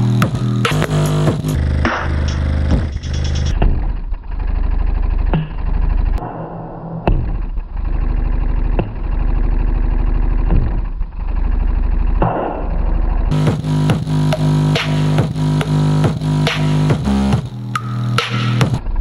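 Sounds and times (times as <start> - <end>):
bass-heavy electronic music: 0.0 - 19.0.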